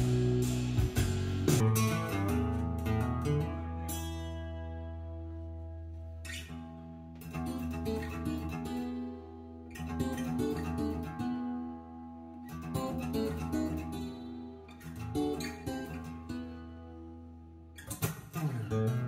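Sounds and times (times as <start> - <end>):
acoustic guitar strummed chords: 0.0 - 19.0.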